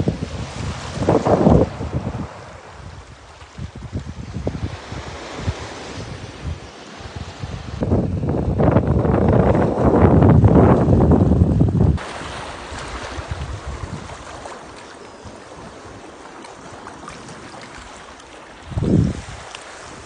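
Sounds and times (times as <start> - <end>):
rush of wind and water: 0.0 - 20.0
wind buffeting microphone: 0.0 - 20.0.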